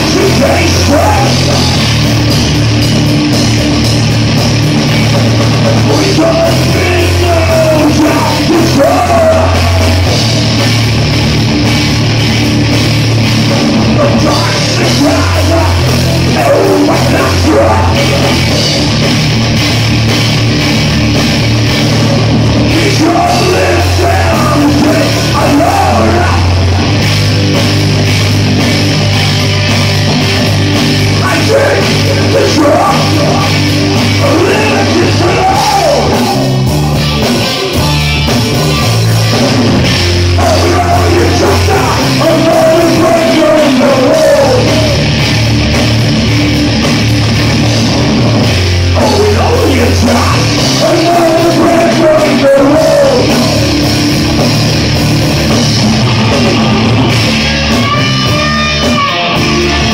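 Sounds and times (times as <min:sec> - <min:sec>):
bass guitar: 0:00.0 - 0:59.9
distorted electric guitars: 0:00.0 - 0:59.9
drums: 0:00.0 - 0:59.9.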